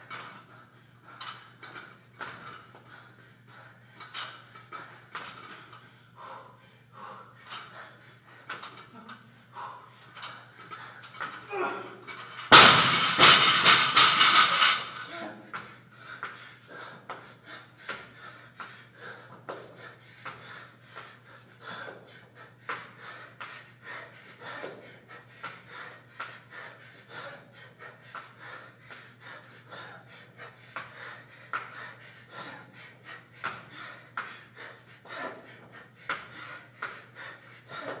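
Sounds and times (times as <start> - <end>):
man panting hard: 0.0 - 11.5, 12.5 - 38.0.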